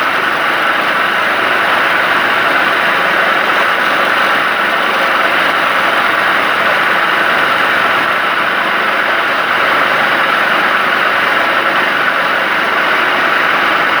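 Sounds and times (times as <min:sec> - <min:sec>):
woodturning lathe running: 0:00.0 - 0:14.0.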